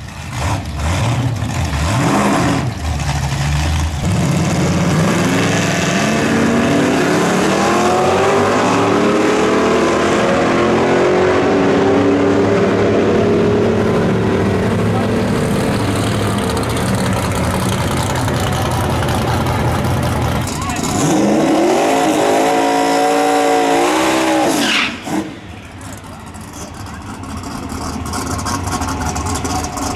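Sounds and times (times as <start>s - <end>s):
drag racing cars accelerating: 0.0s - 29.9s.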